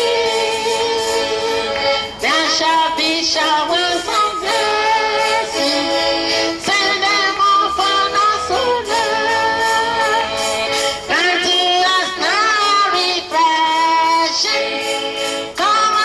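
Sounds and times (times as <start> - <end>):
instrumental accompaniment: 0.0 - 16.0
voices singing sustained notes: 0.0 - 16.0.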